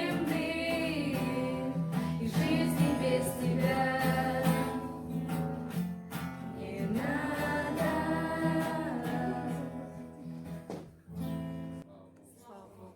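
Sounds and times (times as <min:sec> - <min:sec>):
acoustic guitar: 0:00.0 - 0:12.9.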